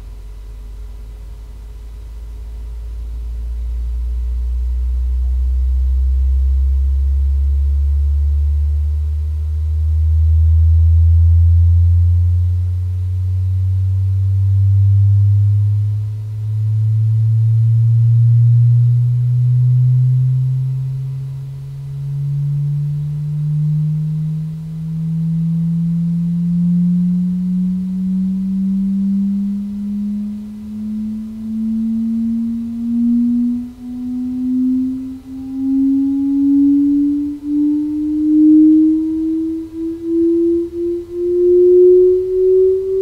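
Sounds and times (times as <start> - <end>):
sine-wave sweep tone: 0.0 - 43.0.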